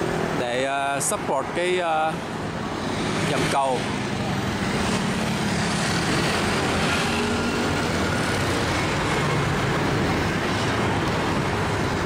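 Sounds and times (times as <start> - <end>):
road traffic: 0.0 - 12.0
motor scooters passing: 1.6 - 12.0.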